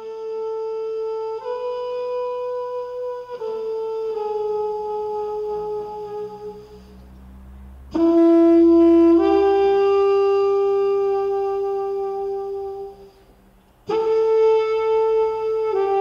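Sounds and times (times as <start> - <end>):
long held wind instrument notes: 0.0 - 16.0.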